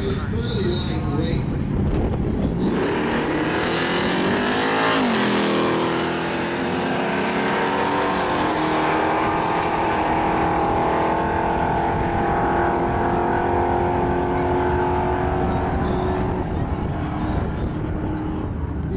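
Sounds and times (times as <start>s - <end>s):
car engine at full throttle: 0.0s - 18.9s.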